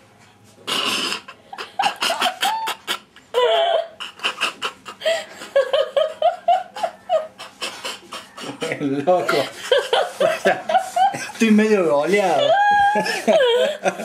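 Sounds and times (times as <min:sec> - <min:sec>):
people laughing: 0:01.3 - 0:14.0.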